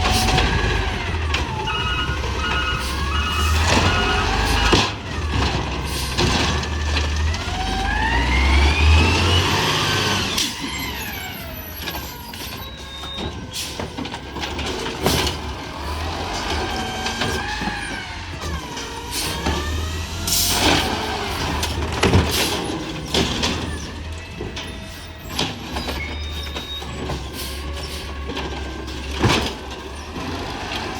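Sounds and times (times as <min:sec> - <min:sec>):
knocks and clatter: 0:00.0 - 0:09.6, 0:11.8 - 0:30.9
truck diesel engine revving: 0:00.0 - 0:30.9.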